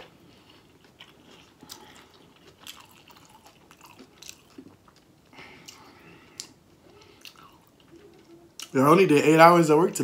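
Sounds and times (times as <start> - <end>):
close chewing with wet smacks: 0.4 - 8.7.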